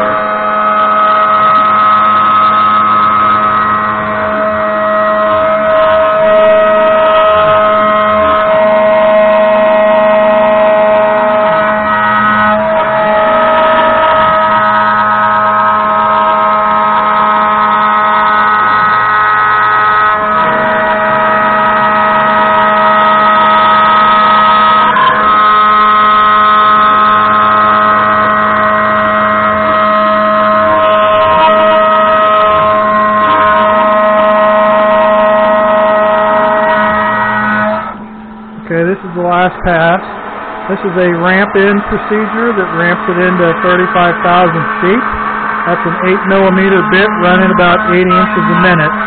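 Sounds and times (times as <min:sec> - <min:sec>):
low hum: 0:00.0 - 0:49.0
router spindle whining: 0:00.0 - 0:49.0.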